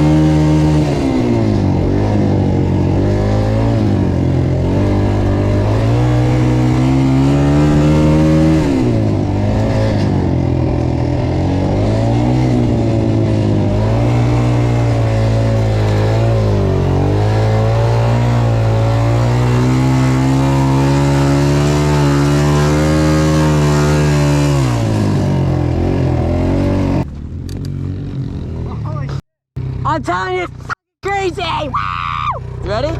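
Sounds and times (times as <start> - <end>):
dirt bike engine revving: 0.0 - 31.6.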